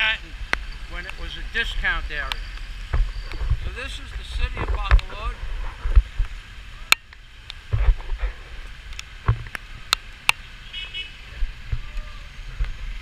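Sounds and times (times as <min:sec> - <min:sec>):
raindrops ticking on camera housing: 0:00.0 - 0:13.0
wind rumble on microphone: 0:00.2 - 0:10.0, 0:11.3 - 0:13.0.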